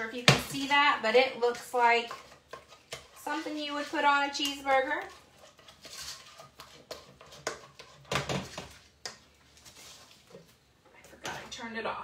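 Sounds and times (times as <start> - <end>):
spoon stirring thick mixture in pot: 0.0 - 12.0.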